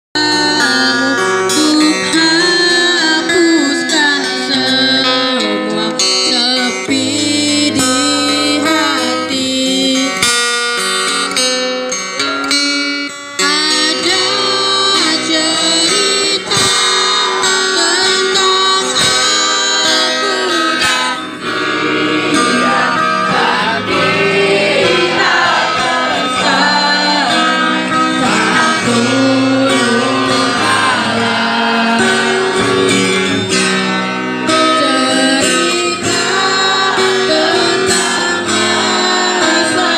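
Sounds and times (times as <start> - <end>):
woman singing: 0.2 - 10.4, 13.4 - 24.0, 24.8 - 33.1, 34.5 - 39.9
guitar accompaniment: 0.2 - 39.9.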